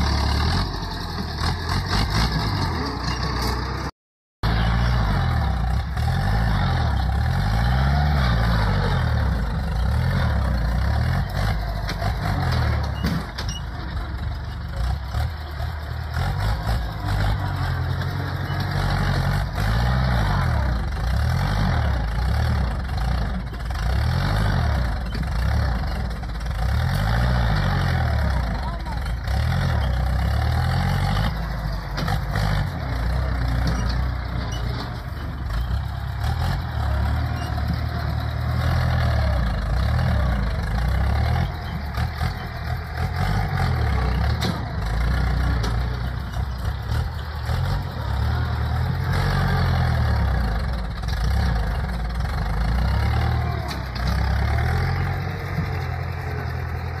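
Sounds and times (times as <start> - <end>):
tractor diesel engine labouring: 0.0 - 57.0.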